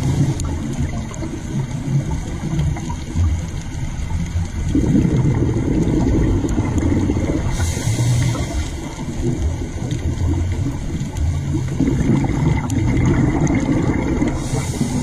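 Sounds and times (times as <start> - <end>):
underwater rumble and gurgle: 0.0 - 15.0.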